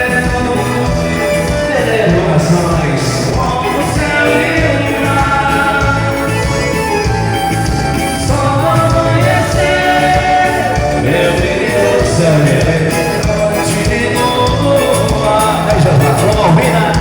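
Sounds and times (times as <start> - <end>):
band music: 0.0 - 17.0
bass line: 0.0 - 17.0
lead singer: 0.0 - 17.0.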